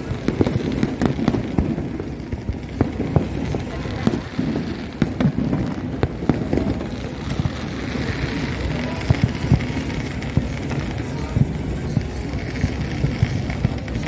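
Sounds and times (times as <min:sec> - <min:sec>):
fireworks bangs and pops: 0:00.0 - 0:14.0
steady background din: 0:00.0 - 0:14.0.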